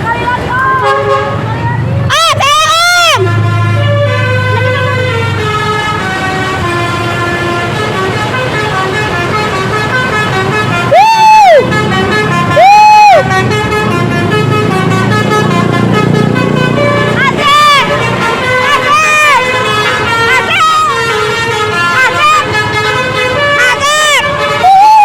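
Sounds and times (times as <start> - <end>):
bus musical horn melody: 0.0 - 25.0
loud long horn blasts: 0.6 - 25.0.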